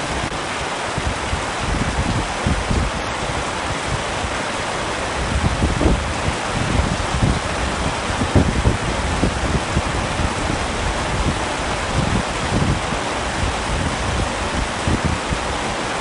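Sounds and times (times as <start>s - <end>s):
heavy rain on a tent: 0.0s - 16.0s
low rumbles: 0.0s - 16.0s.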